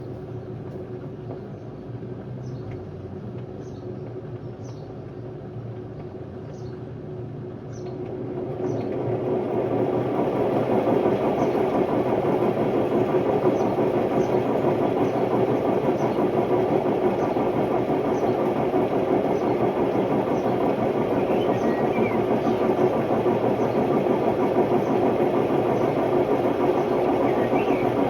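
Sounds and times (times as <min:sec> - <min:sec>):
washing machine spin roar: 0:00.0 - 0:28.0.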